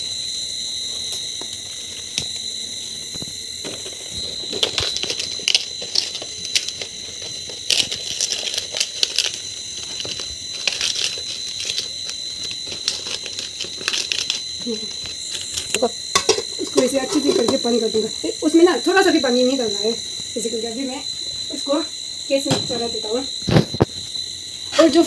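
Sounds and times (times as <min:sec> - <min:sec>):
banana leaves crackling: 0:01.2 - 0:21.7.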